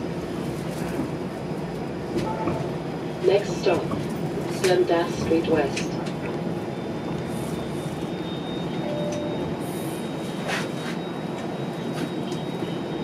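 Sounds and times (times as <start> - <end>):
streetcar wheels rumbling: 0.0 - 13.0.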